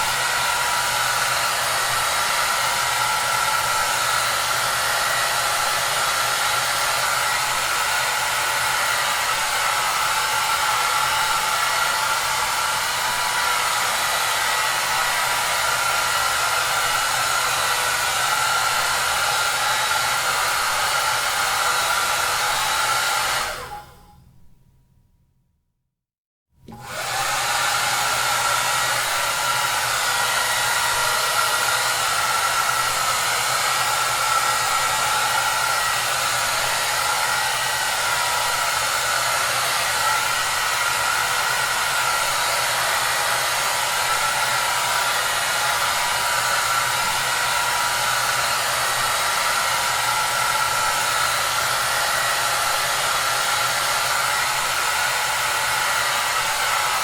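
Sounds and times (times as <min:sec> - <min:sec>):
hair dryer running: 0:00.0 - 0:24.1, 0:26.6 - 0:57.0.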